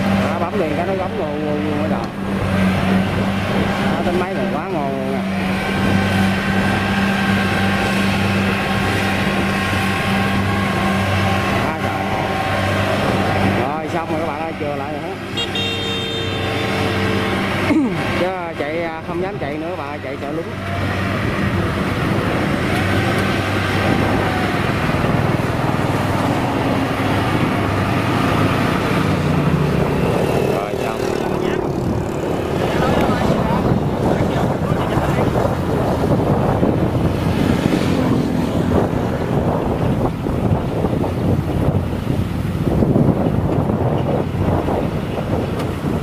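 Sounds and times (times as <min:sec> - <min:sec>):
combine harvester running: 0:00.0 - 0:40.0
diesel engine droning: 0:00.0 - 0:46.0.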